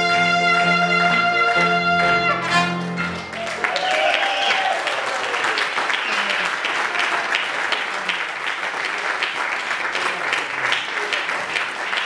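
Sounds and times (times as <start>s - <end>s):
congregation clapping: 0.0s - 12.0s.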